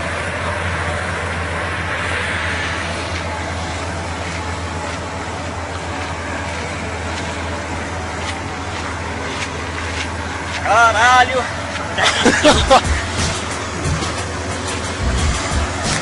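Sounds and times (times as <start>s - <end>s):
road and wind noise: 0.0s - 16.0s
vehicle engine hum: 0.0s - 16.0s.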